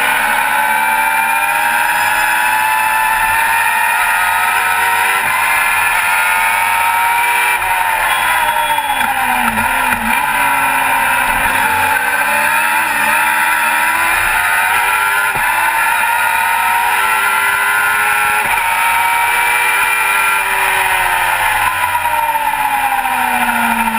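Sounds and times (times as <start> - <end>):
racing car engine: 0.0 - 23.9.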